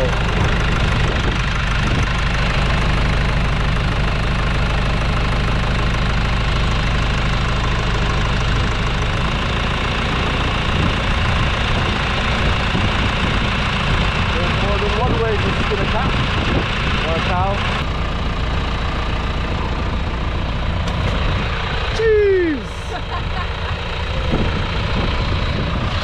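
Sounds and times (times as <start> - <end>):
tractor engine running loudly: 0.0 - 26.0.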